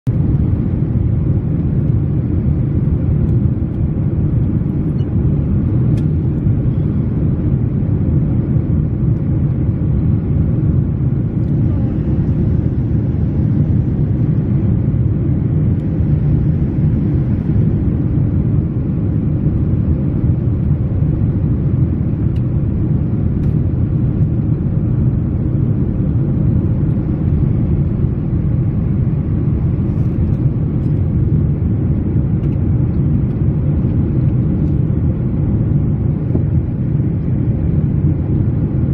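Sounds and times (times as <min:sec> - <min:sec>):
airliner cabin engine roar: 0:00.0 - 0:38.9.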